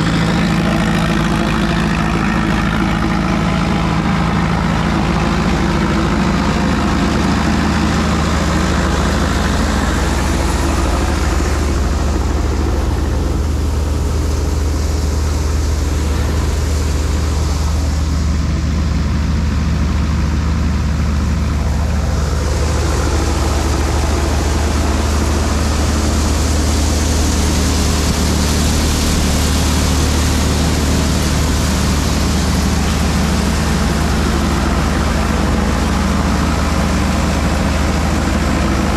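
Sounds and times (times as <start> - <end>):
thresher drum and blower whirring: 0.0 - 38.9
tractor diesel engine running: 0.0 - 38.9.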